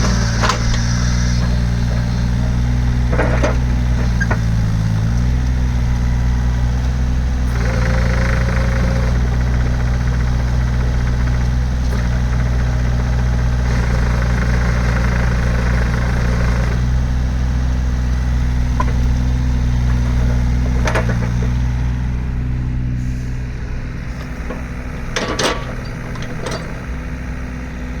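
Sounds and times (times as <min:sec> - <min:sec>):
excavator diesel engine idling: 0:00.0 - 0:28.0.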